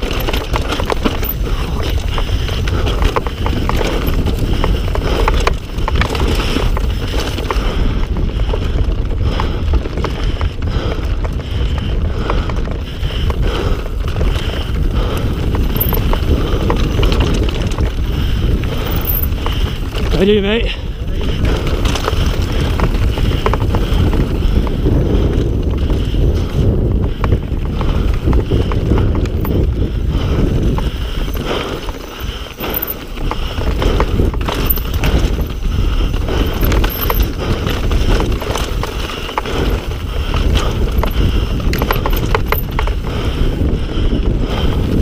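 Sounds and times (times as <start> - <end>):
bike rattling over stones: 0.0 - 45.0
wind rumble on microphone: 0.0 - 45.0.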